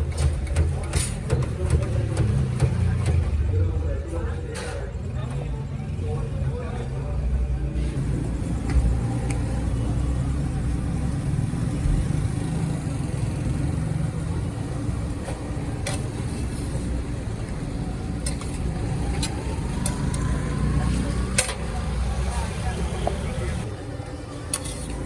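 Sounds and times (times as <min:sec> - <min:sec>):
street background rumble: 0:00.0 - 0:25.0.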